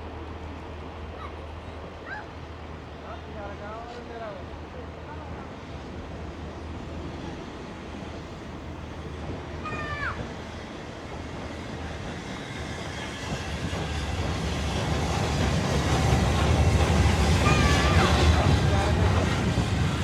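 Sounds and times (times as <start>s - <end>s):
train running: 0.0s - 20.0s.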